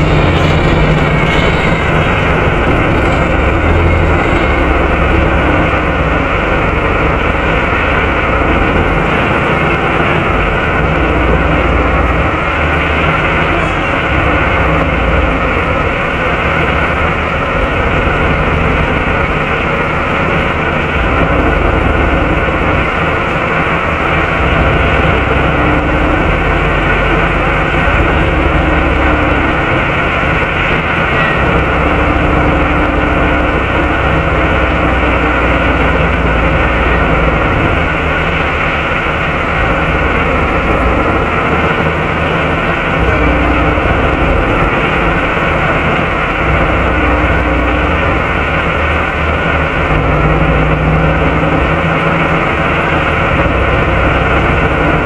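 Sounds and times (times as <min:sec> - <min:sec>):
bus engine and cooling fan: 0:00.0 - 0:55.0
low hum: 0:00.0 - 0:55.0.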